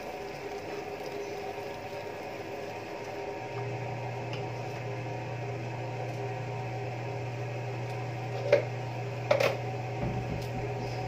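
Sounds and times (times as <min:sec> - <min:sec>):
broth boiling in a pot: 0:00.0 - 0:11.0
steady low hum: 0:00.0 - 0:11.0.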